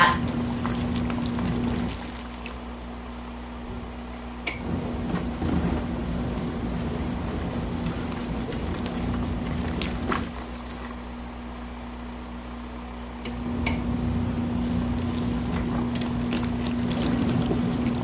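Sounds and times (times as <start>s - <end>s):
washing machine churning water: 0.0s - 11.7s, 13.3s - 18.0s
washing machine motor hum: 0.0s - 18.0s.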